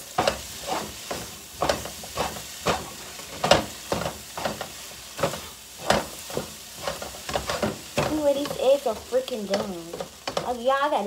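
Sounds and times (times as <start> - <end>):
eggs sizzling in a pan: 0.0 - 11.0
utensil tapping a pan: 0.1 - 10.6.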